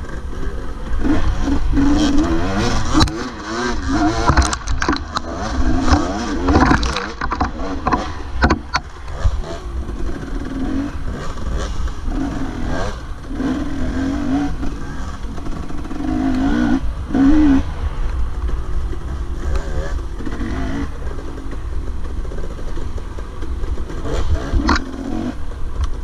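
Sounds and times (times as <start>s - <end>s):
dirt bike engine revving: 0.0s - 26.0s
wind rumble on microphone: 0.0s - 26.0s.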